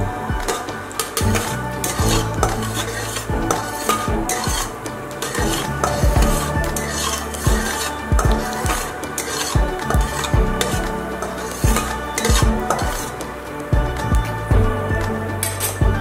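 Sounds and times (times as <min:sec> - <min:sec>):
spatula scraping metal pan: 0:00.4 - 0:13.7
spices sizzling in hot oil: 0:00.4 - 0:13.7.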